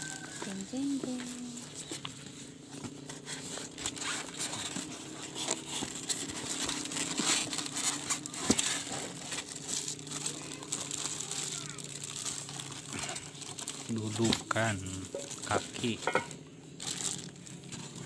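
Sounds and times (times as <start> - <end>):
packaging rustling and tearing: 0.0 - 18.0.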